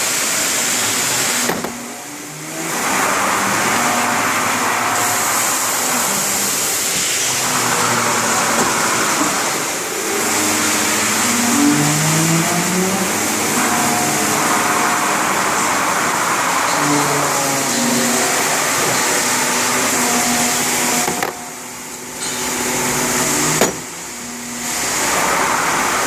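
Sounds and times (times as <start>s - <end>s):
cnc machine spindle noise: 0.0s - 26.0s
stepping motor tones: 0.0s - 26.0s.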